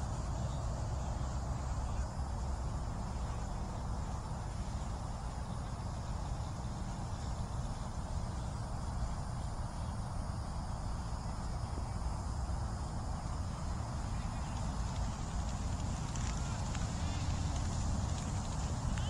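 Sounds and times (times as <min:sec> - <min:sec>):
low unsteady rumble: 0:00.0 - 0:19.0.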